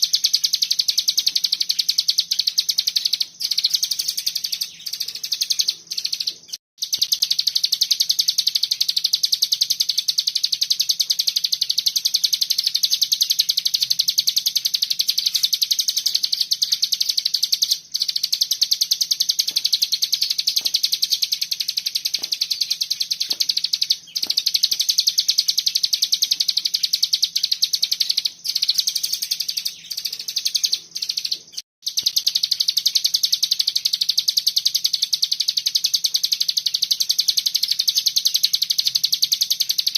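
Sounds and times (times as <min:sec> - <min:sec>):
bird trilling: 0:00.0 - 0:39.9.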